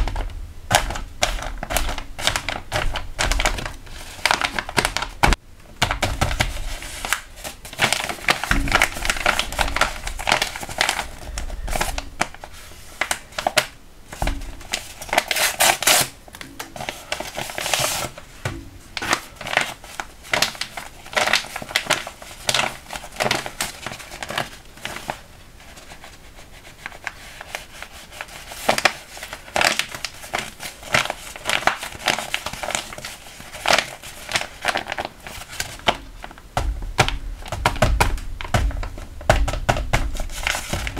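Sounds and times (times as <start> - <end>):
paper crinkling and rustling: 0.0 - 40.9.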